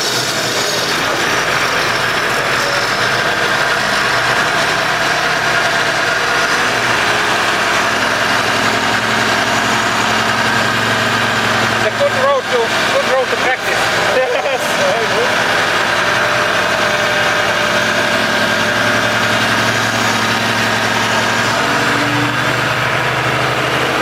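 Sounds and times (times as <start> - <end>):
wood chipper and tractor running: 0.0 - 24.0.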